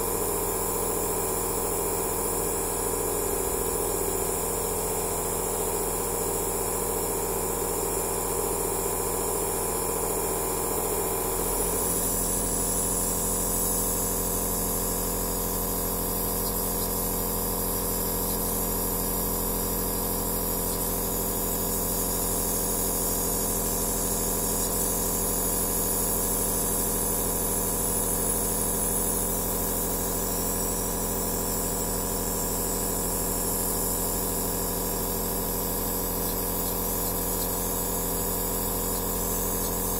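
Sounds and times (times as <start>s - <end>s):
nebulizer compressor hum: 0.0s - 39.9s.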